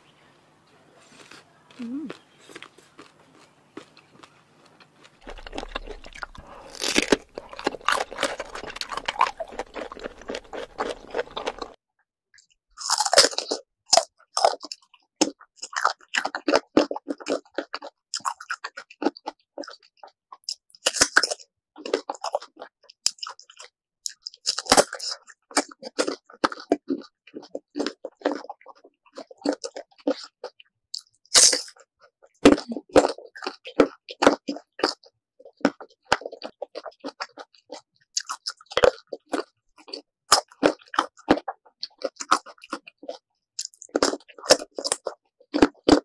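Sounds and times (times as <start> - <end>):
crunching and chewing mango: 1.0 - 11.8, 12.4 - 46.0.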